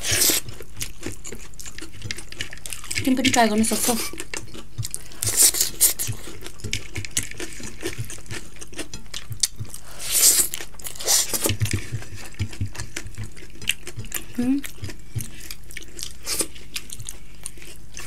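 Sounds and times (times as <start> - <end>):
hands scooping wet food: 0.0 - 18.0
mouths chewing: 0.0 - 18.0.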